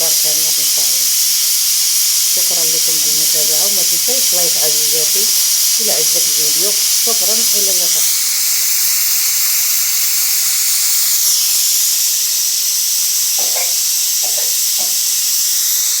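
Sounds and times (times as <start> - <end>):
pressure cooker hissing steam: 0.0 - 16.0.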